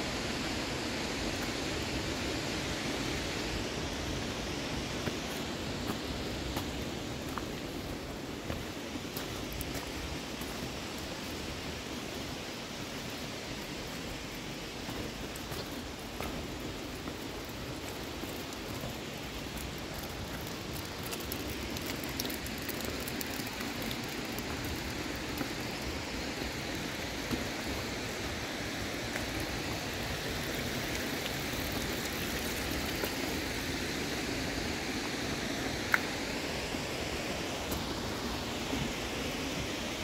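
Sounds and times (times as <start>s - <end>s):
water rushing: 0.1s - 40.0s.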